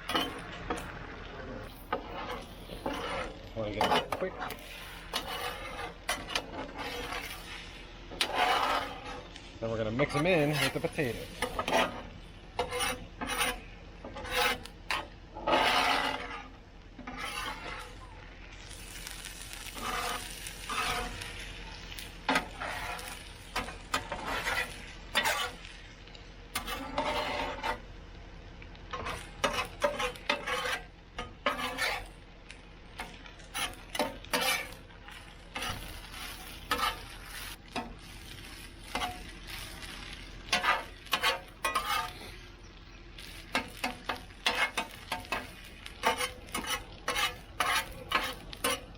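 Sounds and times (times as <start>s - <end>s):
metal spatulas scraping griddle: 0.0s - 27.8s, 28.8s - 32.2s, 33.0s - 48.9s
faint sizzle: 0.0s - 48.9s.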